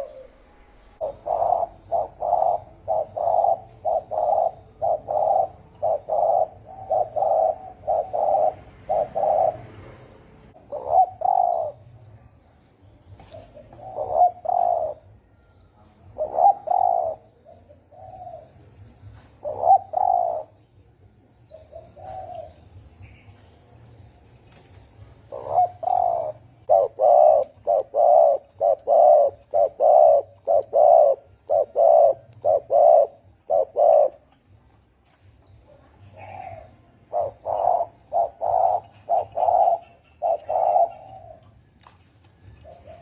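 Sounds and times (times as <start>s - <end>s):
dove cooing: 0.0s - 11.9s, 13.2s - 15.3s, 16.0s - 20.6s, 21.4s - 22.8s, 25.2s - 34.4s, 35.7s - 41.8s, 42.4s - 43.0s.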